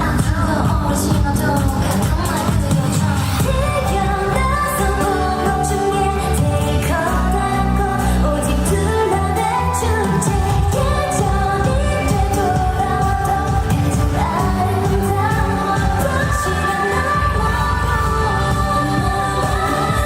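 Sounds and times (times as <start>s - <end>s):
female vocals singing: 0.0s - 20.0s
pop backing track with steady beat: 0.0s - 20.0s.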